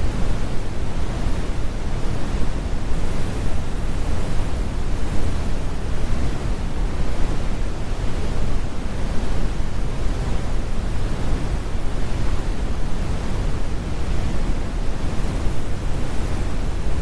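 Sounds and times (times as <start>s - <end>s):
brown noise rumble: 0.0s - 17.0s.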